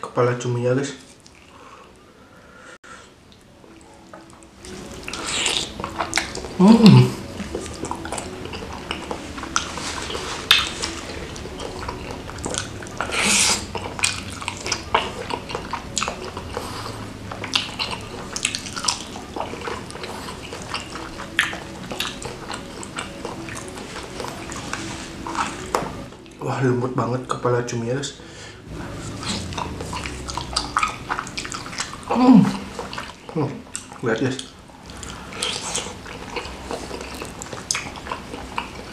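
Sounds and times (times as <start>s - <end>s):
wet chewing and lip-smacking: 3.3s - 26.4s, 28.6s - 38.9s
hissing slurp: 4.7s - 25.9s, 28.6s - 38.9s.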